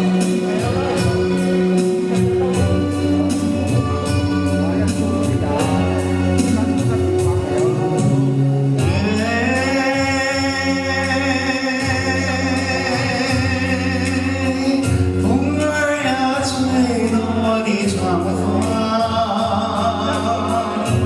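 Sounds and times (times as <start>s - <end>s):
steady low accompaniment: 0.0s - 21.0s.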